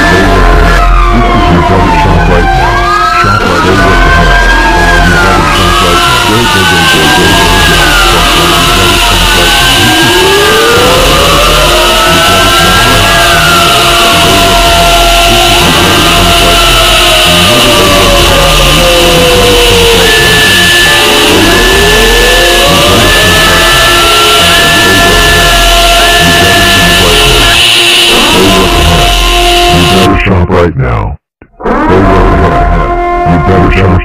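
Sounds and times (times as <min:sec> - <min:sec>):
distorted layered sound effects: 0:00.0 - 0:34.0.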